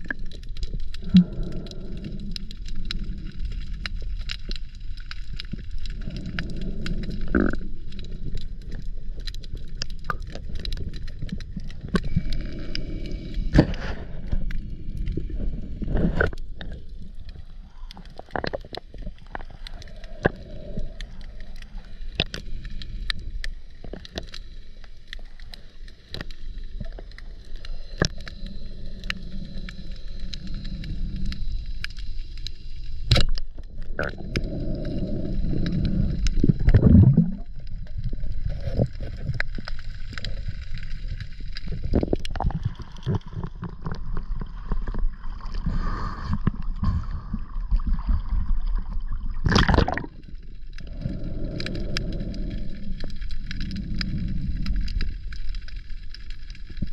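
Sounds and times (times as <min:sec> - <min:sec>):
muffled underwater rumble: 0:00.0 - 0:56.9
sharp clicks and crackles: 0:00.0 - 0:56.9.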